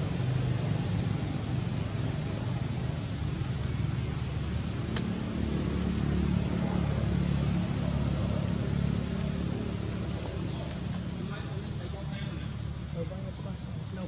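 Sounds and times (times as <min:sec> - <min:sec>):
low engine-like hum: 0:00.0 - 0:14.0.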